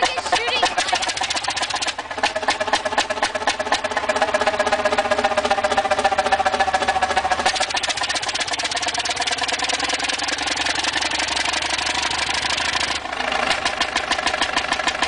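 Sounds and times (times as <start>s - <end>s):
stationary engine exhaust beating: 0.0s - 15.0s.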